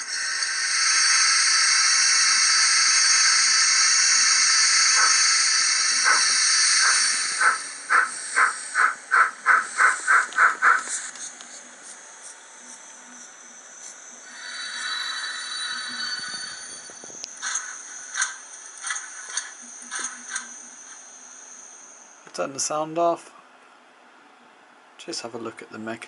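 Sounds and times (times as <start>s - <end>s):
steam locomotive exhaust beats: 0.0s - 11.8s, 12.6s - 21.8s
steam hiss: 0.0s - 22.0s.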